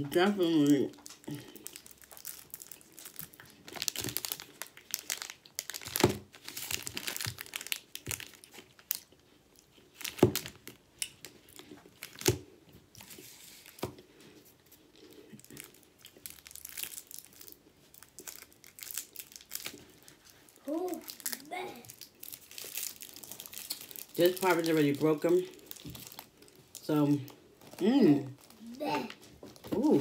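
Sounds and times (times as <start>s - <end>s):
plastic wrapper crinkling and tearing: 0.1s - 30.0s.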